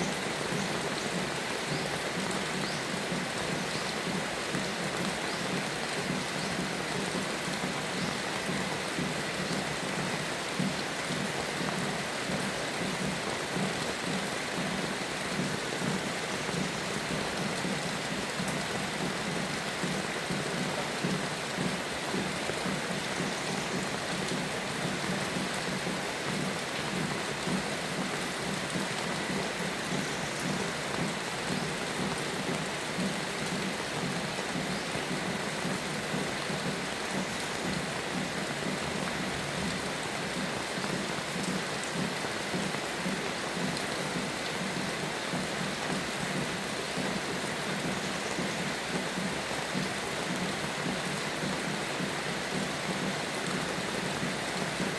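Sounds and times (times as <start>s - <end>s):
steady rainfall: 0.0s - 54.9s.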